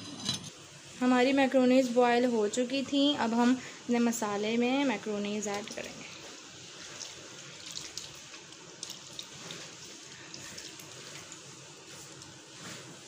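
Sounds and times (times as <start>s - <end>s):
steady hiss: 0.5s - 13.0s.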